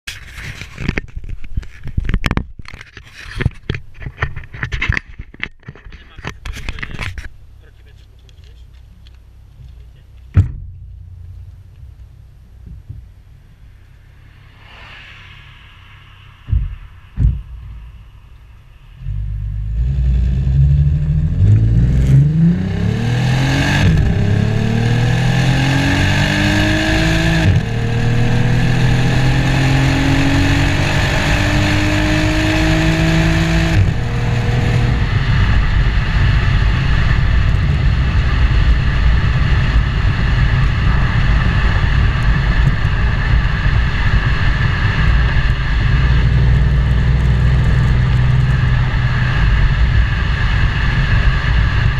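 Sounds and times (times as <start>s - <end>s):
car engine accelerating: 6.6s - 51.9s.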